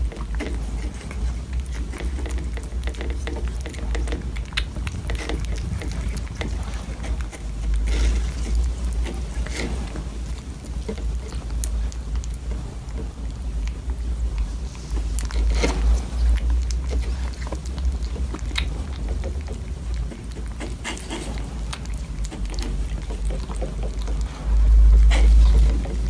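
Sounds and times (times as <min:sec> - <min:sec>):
kittens licking and chewing: 0:00.0 - 0:26.0
steady low rumble: 0:00.0 - 0:26.0.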